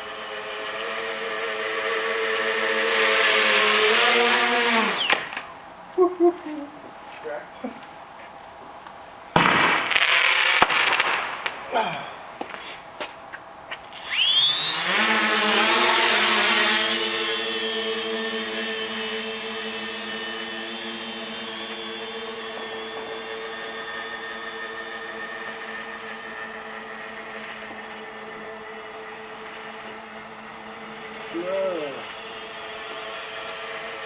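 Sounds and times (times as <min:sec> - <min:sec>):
drone buzzing: 0:00.0 - 0:06.9, 0:13.3 - 0:34.0
electric motors whining: 0:00.0 - 0:07.0, 0:12.2 - 0:34.0.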